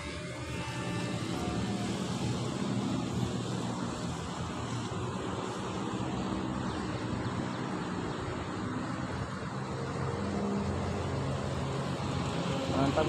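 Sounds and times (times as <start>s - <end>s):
distant model plane motor hum: 0.0s - 13.0s.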